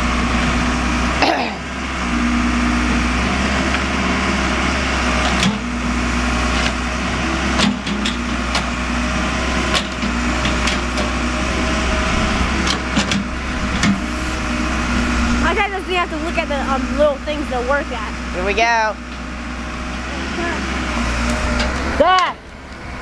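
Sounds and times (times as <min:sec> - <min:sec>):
backhoe engine running: 0:00.0 - 0:23.0.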